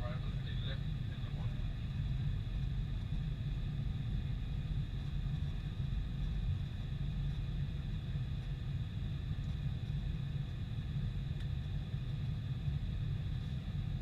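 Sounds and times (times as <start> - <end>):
faint high engine whine: 0.0 - 14.0
jet engines low rumble: 0.0 - 14.0.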